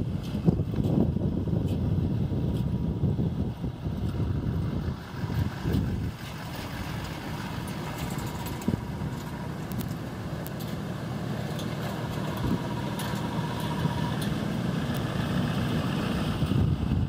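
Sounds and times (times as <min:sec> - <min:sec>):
pickup truck driving past: 0:00.0 - 0:17.0.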